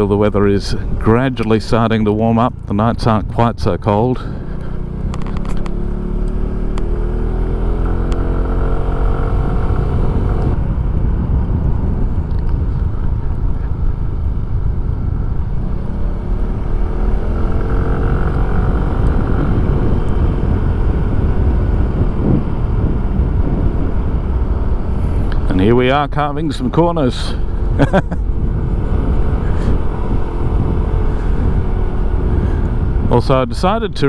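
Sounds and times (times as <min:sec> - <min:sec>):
scooter engine running: 0:00.0 - 0:33.4
heavy wind rumble: 0:00.0 - 0:34.0.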